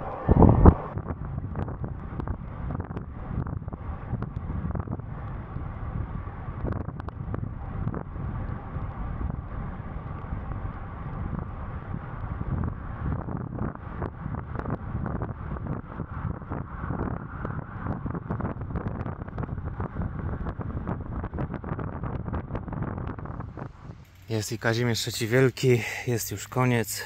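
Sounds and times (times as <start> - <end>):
wind buffeting microphone: 0.0 - 25.2.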